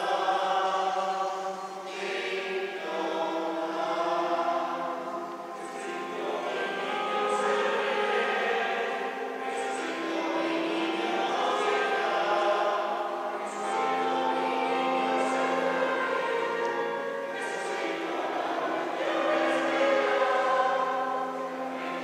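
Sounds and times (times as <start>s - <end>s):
mixed choir singing: 0.0s - 22.0s.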